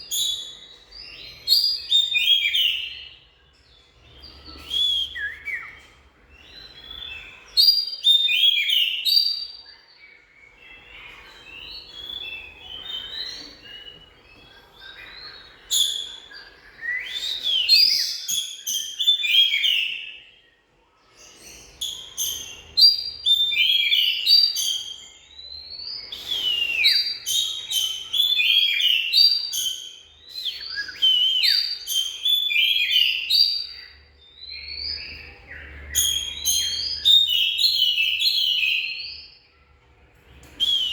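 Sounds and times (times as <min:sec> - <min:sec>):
bird singing whistled notes: 0:00.0 - 0:20.6, 0:21.3 - 0:39.4, 0:40.4 - 0:40.9.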